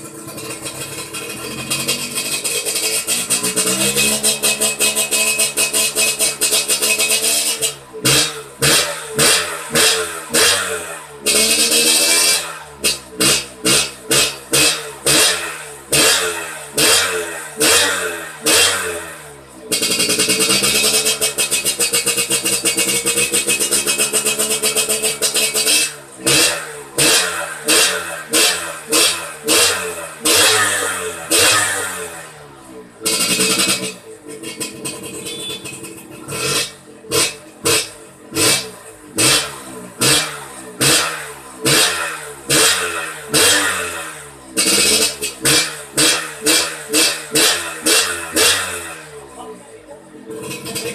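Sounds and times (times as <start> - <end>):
two-stroke motorcycle engine revving: 0.0 - 50.9.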